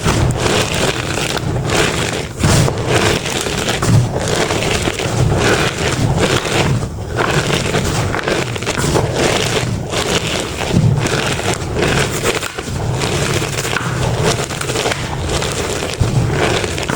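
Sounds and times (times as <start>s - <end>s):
chalk blocks crunching: 0.0s - 16.9s.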